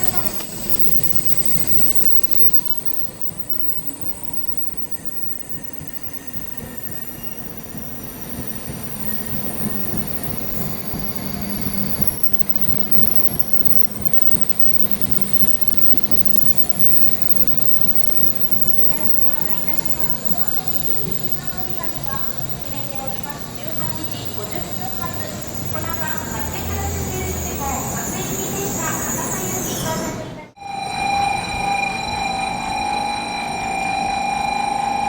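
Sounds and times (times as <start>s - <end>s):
train rumble: 0.0s - 34.0s
train wheels squealing: 0.0s - 35.0s.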